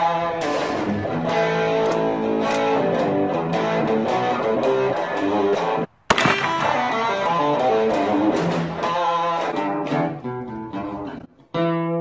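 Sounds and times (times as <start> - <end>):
instrumental guitar music: 0.0 - 12.0.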